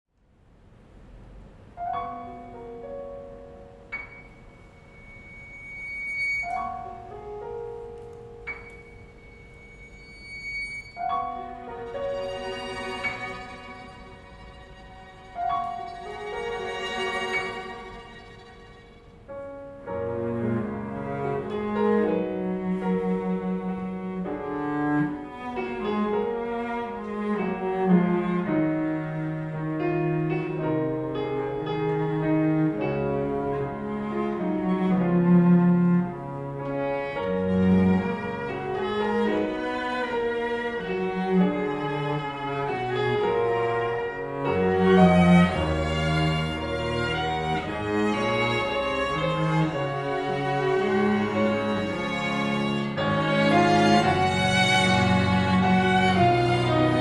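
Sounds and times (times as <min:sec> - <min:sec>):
string quartet and piano: 0:00.2 - 0:57.0
cello long bowed notes: 0:01.8 - 0:57.0.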